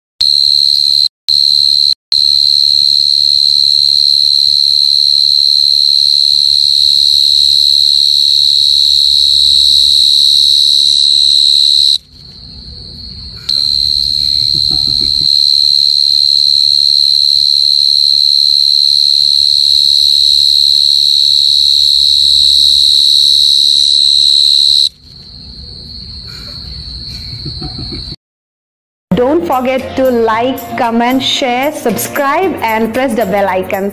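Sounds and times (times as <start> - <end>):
cricket chirping: 0.2 - 28.2.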